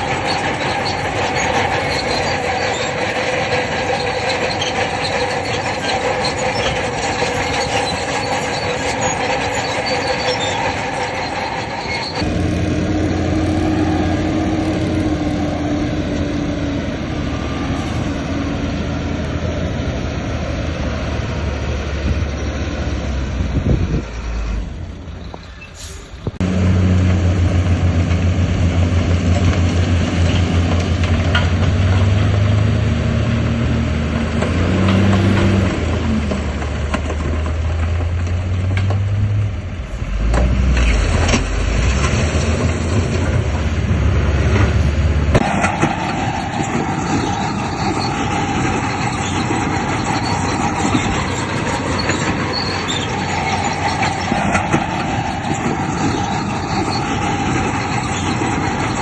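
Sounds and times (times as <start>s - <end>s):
diesel machinery engine hum: 0.0s - 59.0s.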